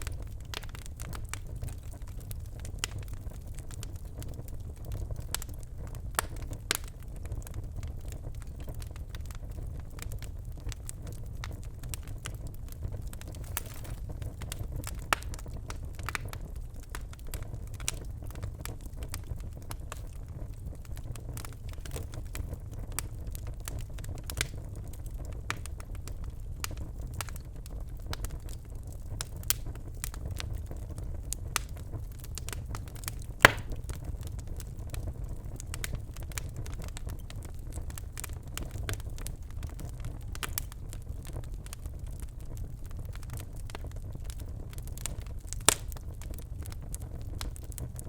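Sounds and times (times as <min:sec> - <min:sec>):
logs crackling and popping: 0:00.0 - 0:48.0
low rumble of flames: 0:00.0 - 0:48.0.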